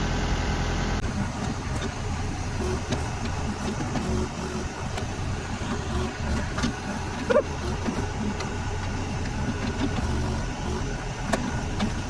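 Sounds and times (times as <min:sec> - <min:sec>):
backhoe engine rumbling: 0:00.2 - 0:12.0.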